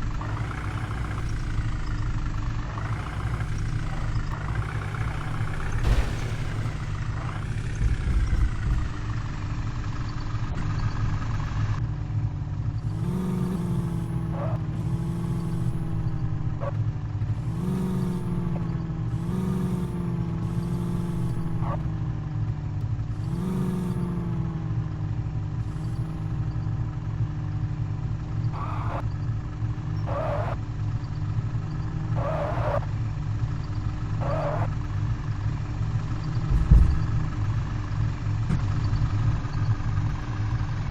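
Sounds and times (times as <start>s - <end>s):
truck engine idling and revving: 0.0s - 40.9s.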